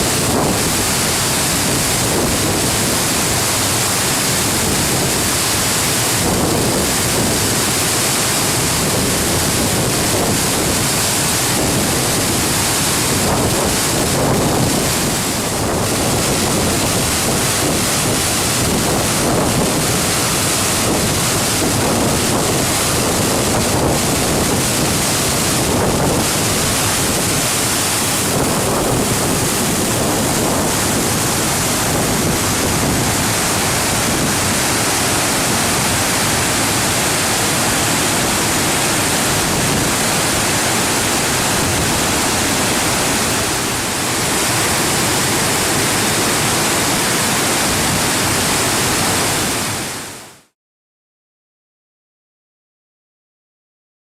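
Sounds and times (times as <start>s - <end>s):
waterfall rushing: 0.0s - 50.5s.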